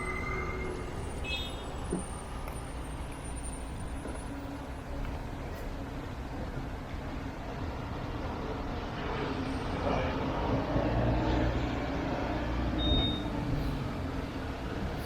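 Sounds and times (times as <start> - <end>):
tram rumbling on tracks: 0.0 - 15.0.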